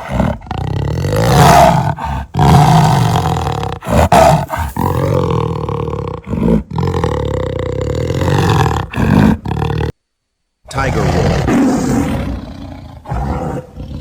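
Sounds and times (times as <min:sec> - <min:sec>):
jaguar roaring: 0:00.0 - 0:09.9, 0:10.8 - 0:14.0.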